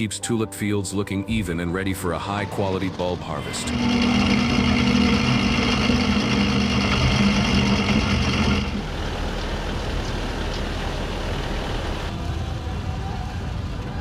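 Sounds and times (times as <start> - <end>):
machine engine droning hum: 1.3 - 14.0.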